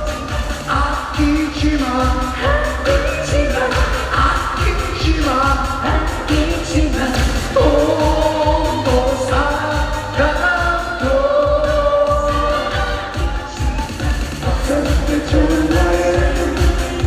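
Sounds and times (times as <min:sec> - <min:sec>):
bass beat: 0:00.0 - 0:17.0
person singing long notes: 0:00.0 - 0:17.0.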